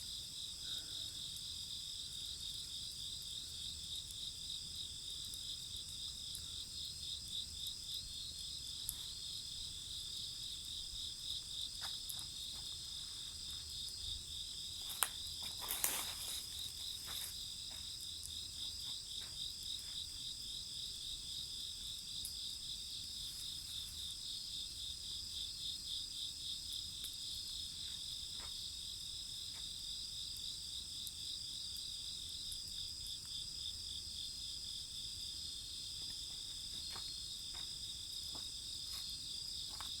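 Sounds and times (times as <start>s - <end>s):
bonfire crackling: 0.0s - 40.0s
crickets trilling: 0.0s - 40.0s.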